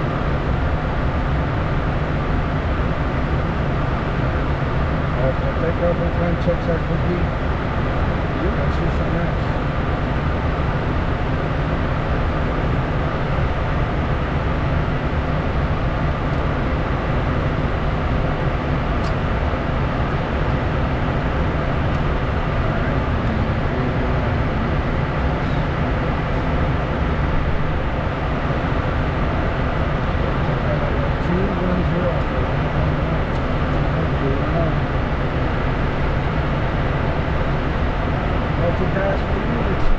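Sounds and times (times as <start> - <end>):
jet cabin airflow and engine rumble: 0.0 - 39.9.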